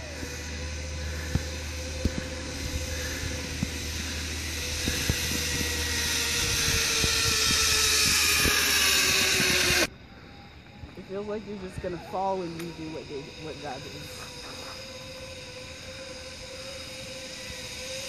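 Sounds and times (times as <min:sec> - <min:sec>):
zipline pulleys whirring on cable: 0:00.0 - 0:18.0.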